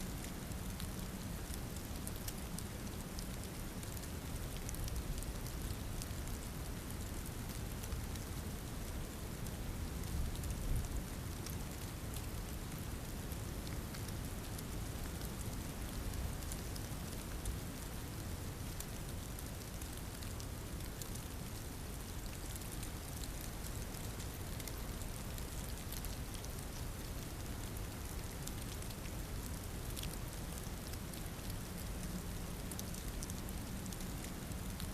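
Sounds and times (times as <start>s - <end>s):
steady rain patter: 0.0s - 34.9s.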